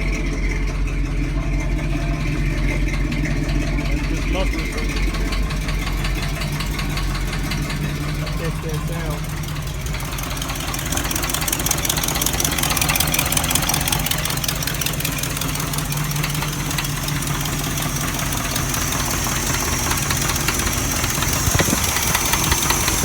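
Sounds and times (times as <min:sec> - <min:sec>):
engine idling with rapid knock: 0:00.0 - 0:23.0.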